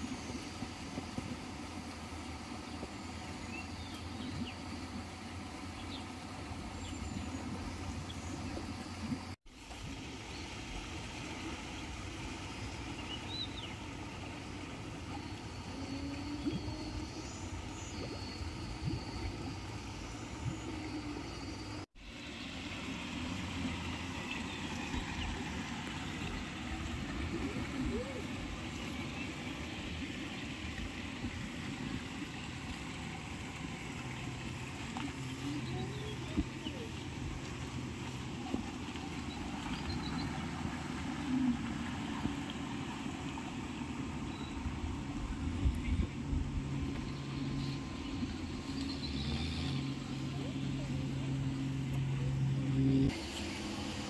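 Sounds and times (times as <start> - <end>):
low hum and rumble: 0.0 - 54.0.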